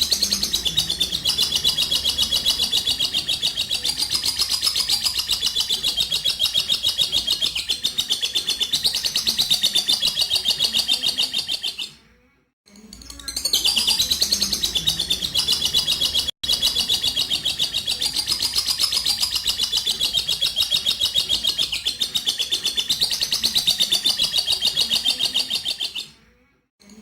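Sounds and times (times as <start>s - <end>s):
lovebird chattering trill: 0.0s - 11.8s, 13.3s - 26.1s.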